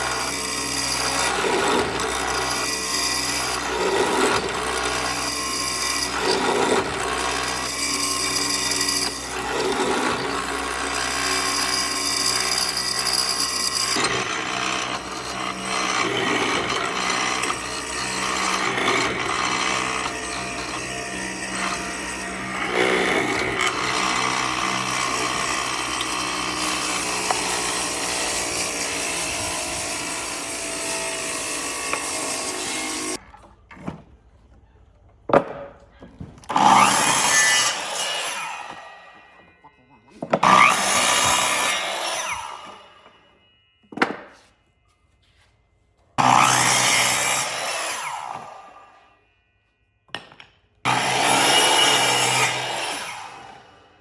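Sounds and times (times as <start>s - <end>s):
power tool grinding wood: 0.0s - 33.2s, 36.5s - 43.3s, 46.2s - 49.2s, 50.8s - 54.0s.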